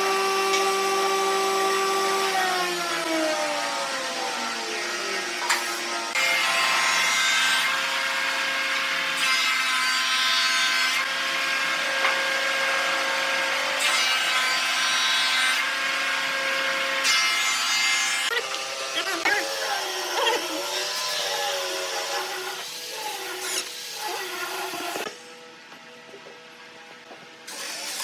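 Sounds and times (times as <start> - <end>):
power tool working wood: 0.0 - 26.5, 27.1 - 28.0.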